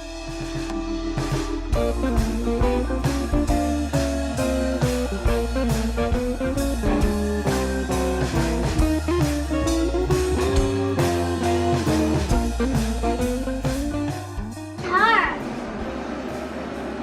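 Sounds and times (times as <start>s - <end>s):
blues-rock music: 0.0s - 16.8s.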